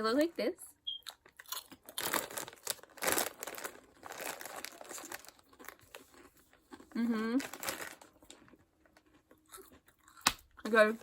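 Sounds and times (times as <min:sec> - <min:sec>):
plastic snack bag crinkling: 0:01.1 - 0:11.0.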